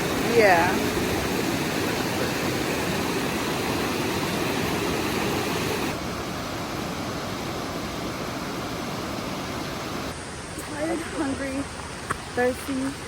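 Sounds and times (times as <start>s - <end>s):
river water rushing: 0.0s - 12.6s.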